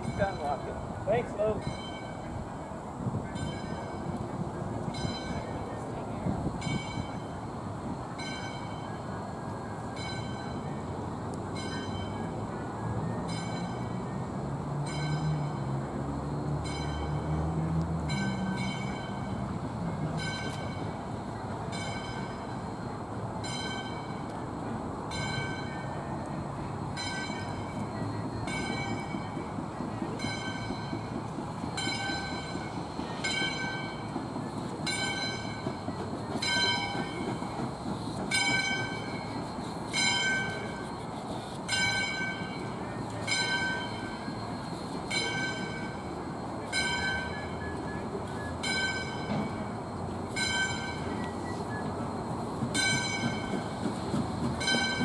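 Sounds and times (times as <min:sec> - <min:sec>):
locomotive bell ringing: 0:00.0 - 0:55.0.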